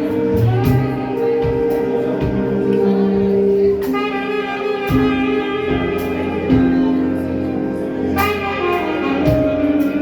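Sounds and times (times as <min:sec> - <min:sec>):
live band playing jazzy music: 0:00.0 - 0:10.0.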